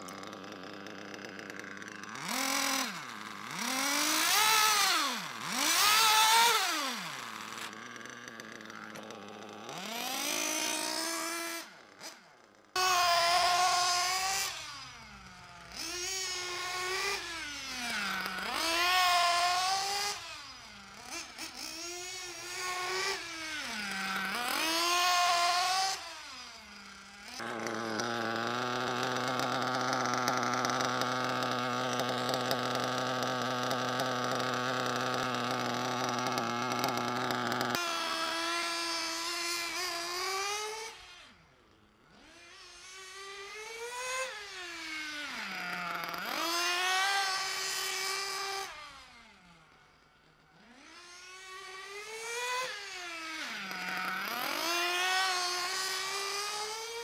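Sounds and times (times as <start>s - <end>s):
small engine revving: 0.0s - 57.0s.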